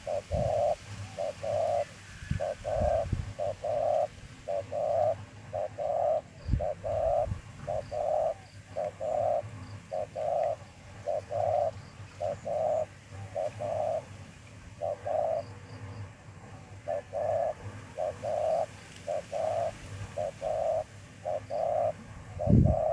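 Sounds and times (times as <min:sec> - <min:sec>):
dove cooing: 0:00.0 - 0:15.9, 0:16.5 - 0:22.9.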